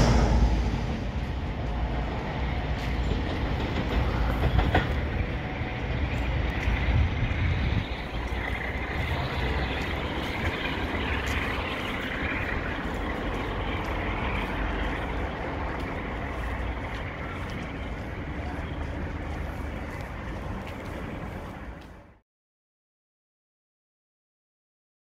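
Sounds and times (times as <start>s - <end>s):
diesel locomotive engine drone: 0.0s - 22.2s.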